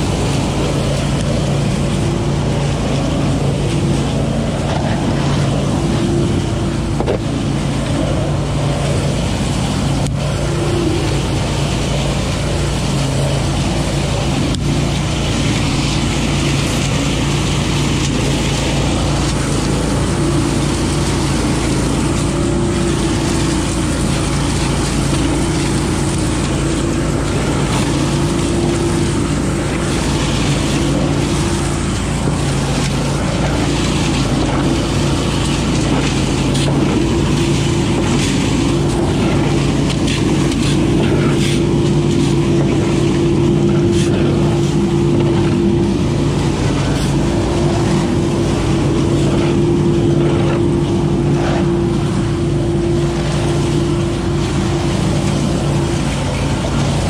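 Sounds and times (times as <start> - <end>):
leaf vacuum engine drone: 0.0 - 57.0.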